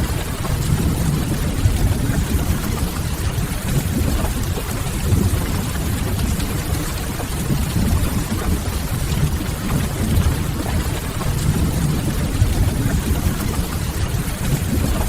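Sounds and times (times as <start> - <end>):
heavy low rumble: 0.0 - 15.0
steady rain: 0.0 - 15.0.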